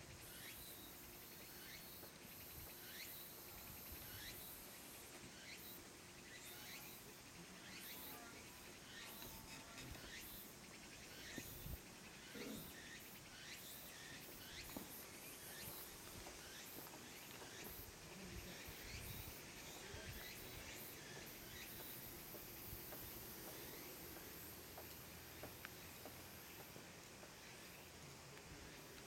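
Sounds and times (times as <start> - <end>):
faint insects chirping: 0.0 - 29.0
soft outdoor background: 0.0 - 29.0.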